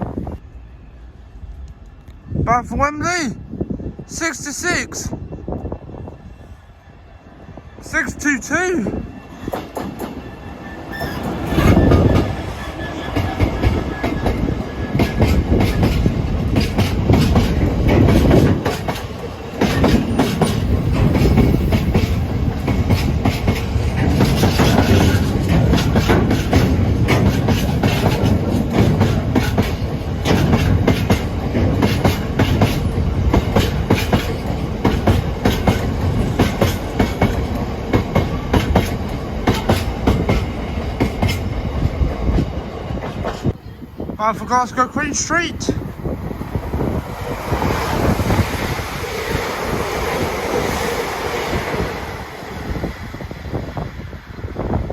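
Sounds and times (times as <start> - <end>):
freight train passing: 0.0 - 54.9.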